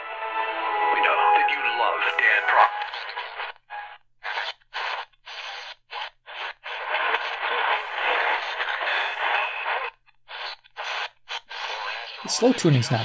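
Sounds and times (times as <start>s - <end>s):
noisy am radio reception: 1.0s - 13.0s
radio static and station audio: 1.0s - 13.0s.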